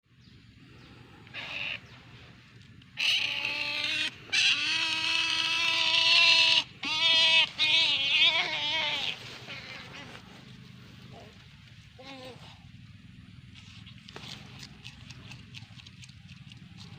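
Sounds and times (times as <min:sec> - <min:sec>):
otter whining calls: 0:00.8 - 0:16.9.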